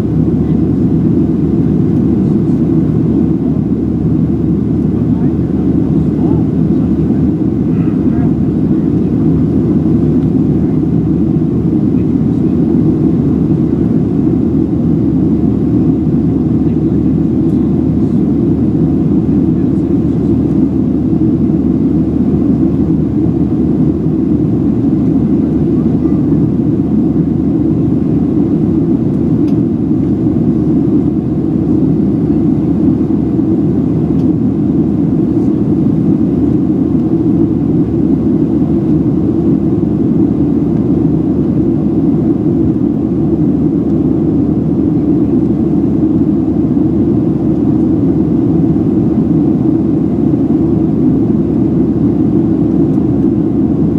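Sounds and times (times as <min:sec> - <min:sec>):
jet engine rumble in cabin: 0:00.0 - 0:53.9.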